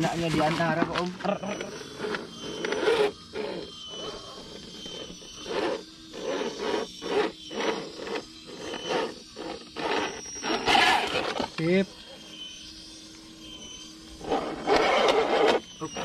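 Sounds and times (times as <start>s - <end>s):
rc car motor whirring: 0.0s - 16.0s.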